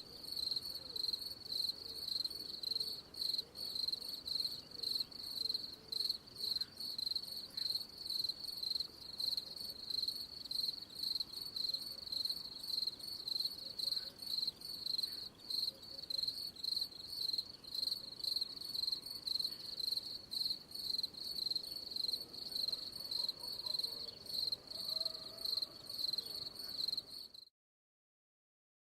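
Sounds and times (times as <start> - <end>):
cricket chirping: 0.0 - 27.5.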